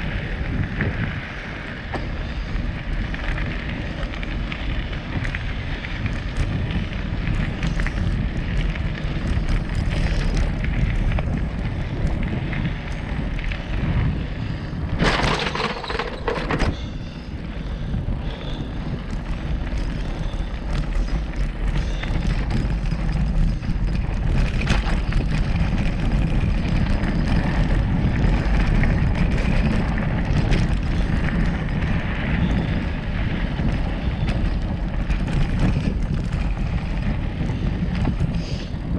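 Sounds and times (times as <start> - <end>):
bike rattling: 0.0 - 38.9
bike tyres rolling on dirt: 0.0 - 38.9
wind rumble on microphone: 0.0 - 38.9.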